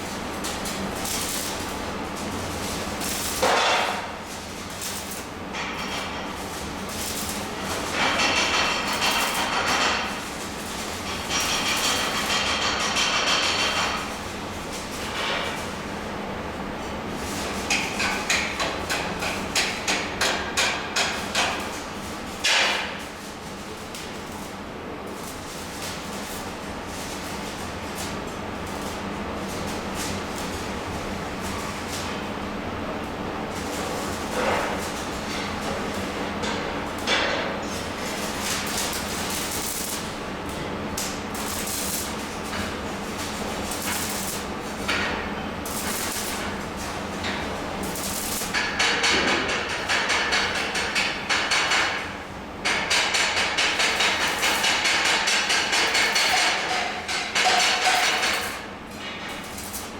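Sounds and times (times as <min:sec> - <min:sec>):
welding crackling hiss: 0:00.0 - 0:16.1, 0:17.2 - 0:58.7, 0:59.4 - 0:59.9.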